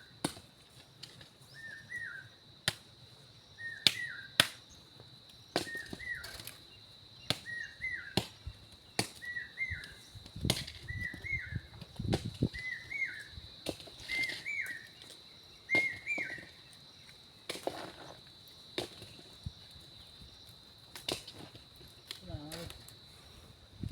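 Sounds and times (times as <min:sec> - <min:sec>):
high insect-like whine: 0:00.0 - 0:23.9.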